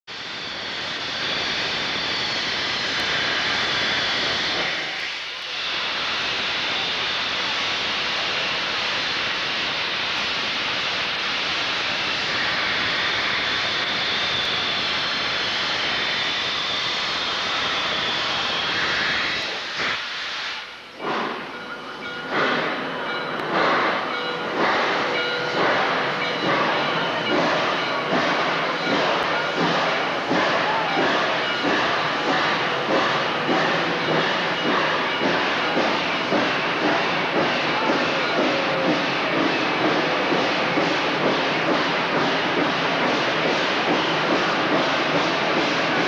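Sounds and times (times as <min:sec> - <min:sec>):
steam locomotive hissing: 0:00.1 - 0:46.0.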